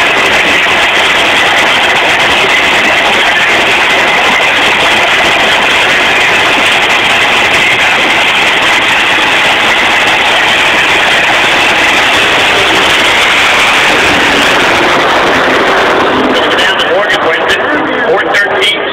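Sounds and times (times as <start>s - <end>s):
racing car engines running loudly: 0.0s - 18.9s.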